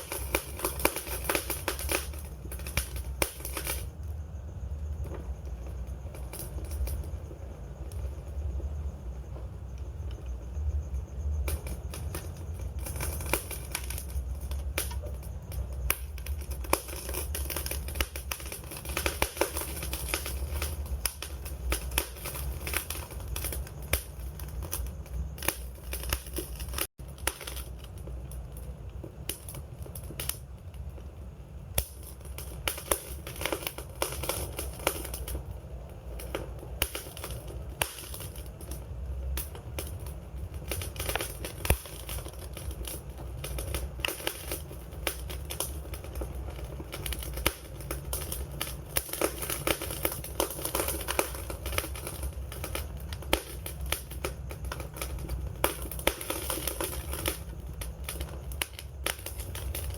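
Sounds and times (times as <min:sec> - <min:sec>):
low rumble of flames: 0:00.0 - 0:59.9
wood crackling and popping: 0:00.0 - 0:59.9.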